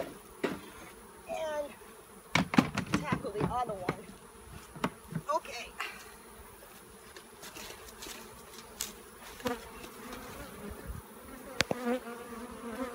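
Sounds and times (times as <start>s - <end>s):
honeybees buzzing: 0.0s - 12.9s
single bee buzzing past: 0.0s - 12.9s.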